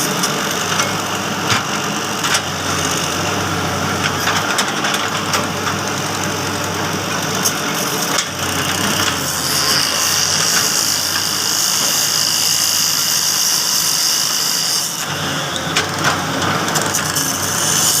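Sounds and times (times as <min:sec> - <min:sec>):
excavator diesel engine running: 0:00.0 - 0:13.6, 0:15.0 - 0:17.8.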